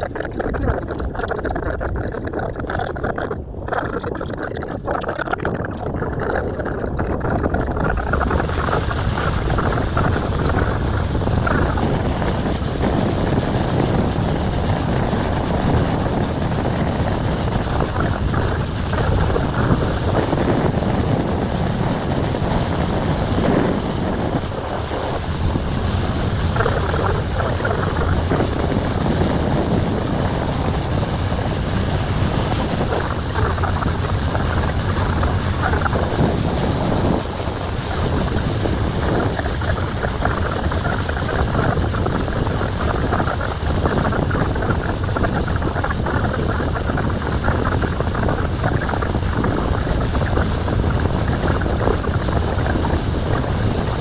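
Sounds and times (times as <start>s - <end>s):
boat engine: 0.0s - 54.0s
water rushing past boat: 0.0s - 54.0s
wind on microphone: 0.0s - 54.0s.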